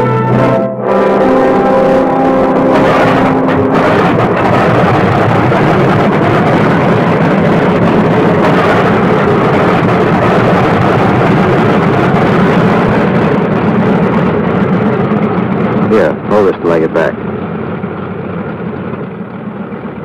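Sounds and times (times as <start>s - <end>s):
radial aircraft engine roaring: 0.0s - 20.0s.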